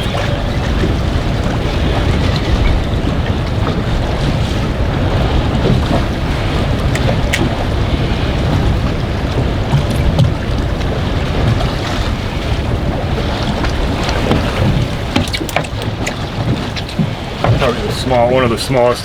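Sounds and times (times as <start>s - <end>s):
waves on choppy water: 0.0s - 19.0s
wind buffeting microphone: 0.0s - 19.0s.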